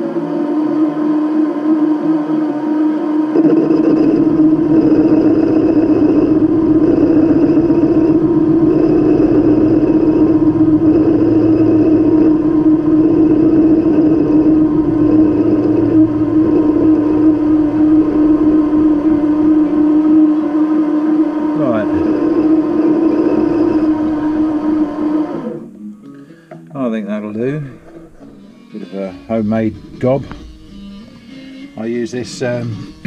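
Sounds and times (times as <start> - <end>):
lathe motor whining: 0.0 - 25.8, 27.2 - 33.0.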